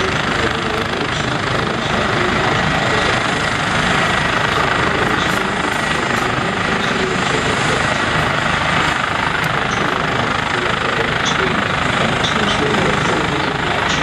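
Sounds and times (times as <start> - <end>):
helicopter rotor and engine rush: 0.0 - 14.0
high steady turbine whine: 0.0 - 14.0.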